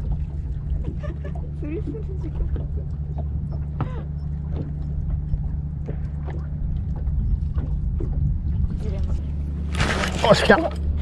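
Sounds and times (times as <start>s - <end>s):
boat engine humming: 0.0s - 11.0s
water knocking against hull: 0.0s - 11.0s.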